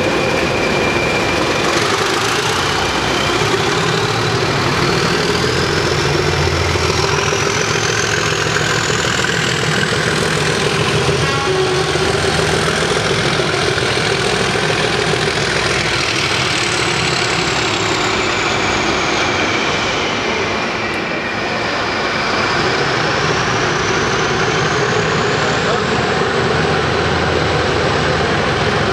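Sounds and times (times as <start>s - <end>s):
turbocharger whistle: 0.0s - 25.8s
diesel locomotive engines: 0.0s - 28.9s.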